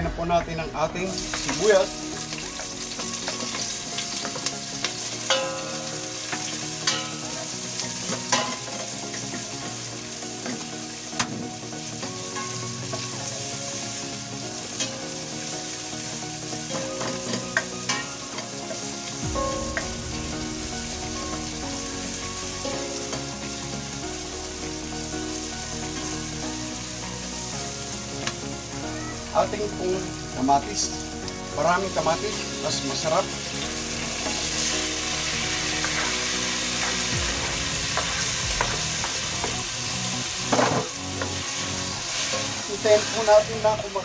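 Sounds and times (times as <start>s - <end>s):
onion and garlic sizzling in oil: 1.0s - 44.0s.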